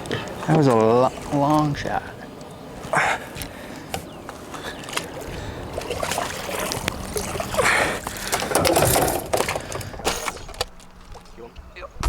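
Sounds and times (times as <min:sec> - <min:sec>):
water splashing and sloshing: 0:00.0 - 0:11.3.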